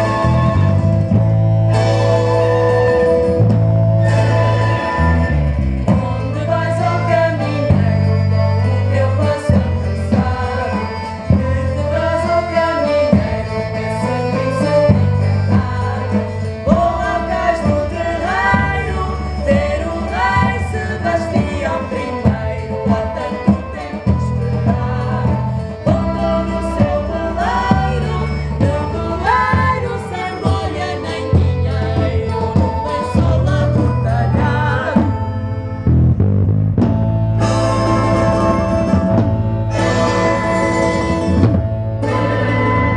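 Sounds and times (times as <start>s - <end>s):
voices singing together: 0.0s - 3.4s, 4.0s - 35.4s, 37.4s - 42.9s
low bass notes: 0.0s - 42.9s
strummed guitars: 0.0s - 42.9s.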